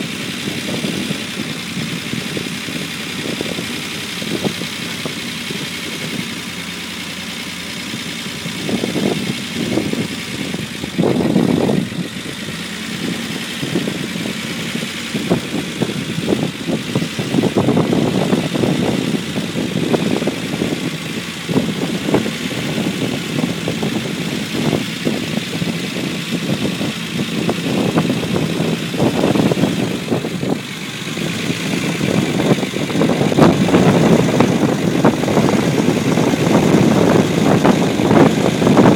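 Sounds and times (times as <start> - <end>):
engine idling unevenly: 0.0 - 38.9.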